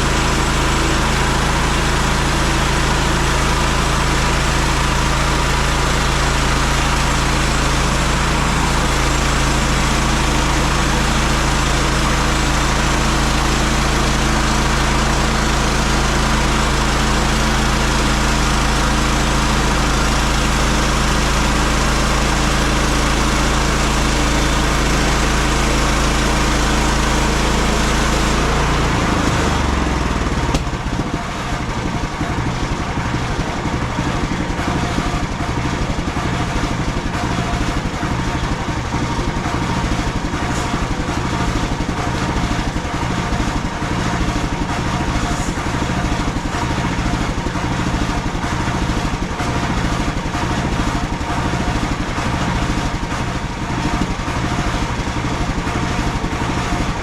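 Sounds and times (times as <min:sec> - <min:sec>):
gasoline engine running: 0:00.0 - 0:57.0.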